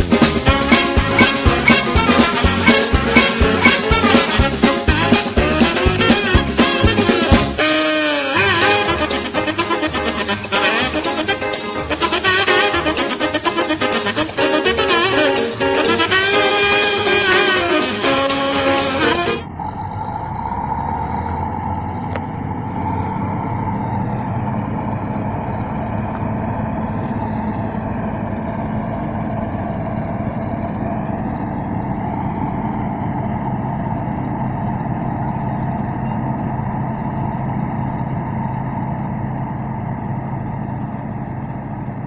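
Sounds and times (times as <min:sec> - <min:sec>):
diesel engines droning: 0:00.0 - 0:42.0.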